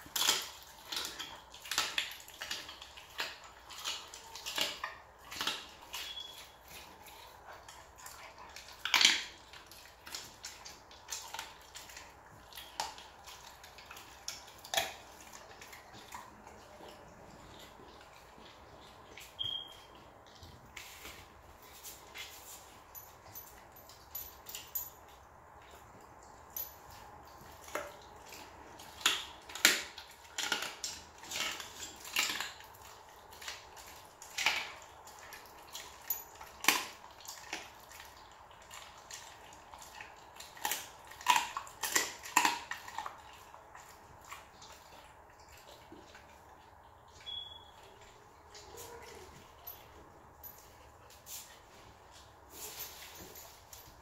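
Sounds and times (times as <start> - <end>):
dog chewing bones: 0.0 - 54.0.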